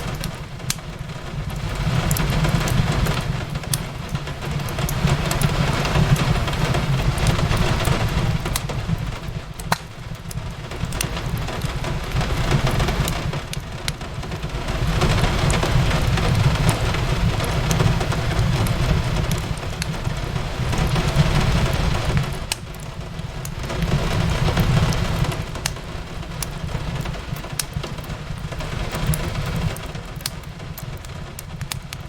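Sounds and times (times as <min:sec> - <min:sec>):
fireplace crackling: 0:00.0 - 0:32.0
rain on a window: 0:00.0 - 0:32.0.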